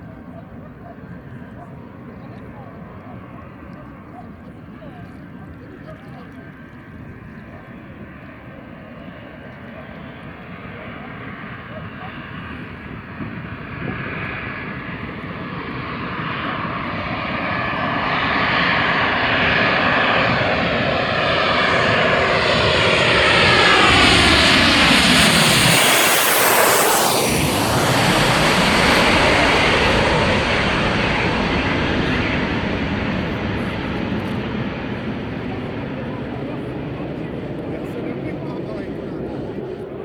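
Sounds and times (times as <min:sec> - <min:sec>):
airplane passing low overhead: 0:00.0 - 0:40.0.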